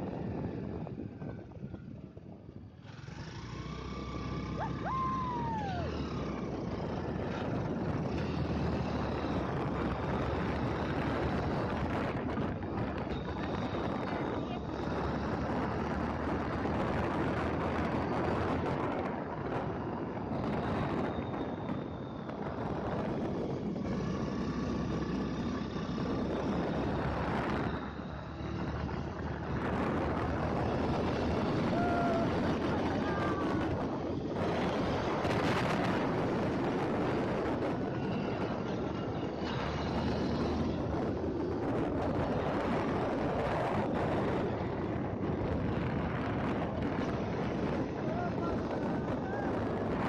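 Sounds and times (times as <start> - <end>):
wind and road noise: 0.0 - 50.0.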